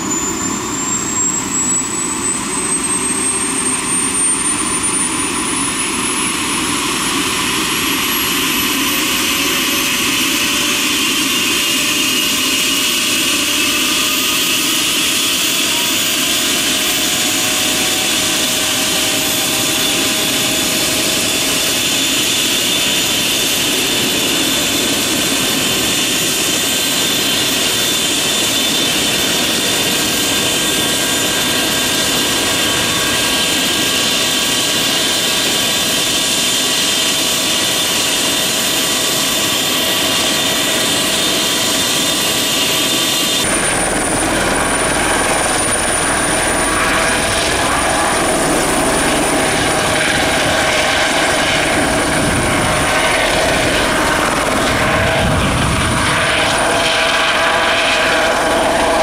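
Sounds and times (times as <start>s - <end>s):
helicopter rotors rushing: 0.0s - 59.0s
helicopter turbine whine: 0.0s - 59.0s.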